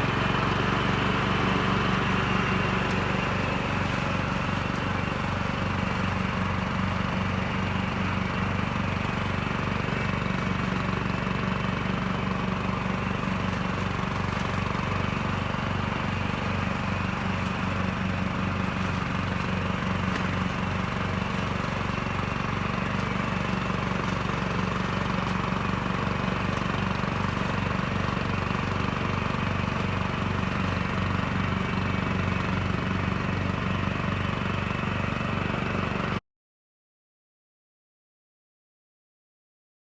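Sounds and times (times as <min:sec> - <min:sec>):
lawn tractor engine running: 0:00.0 - 0:36.2.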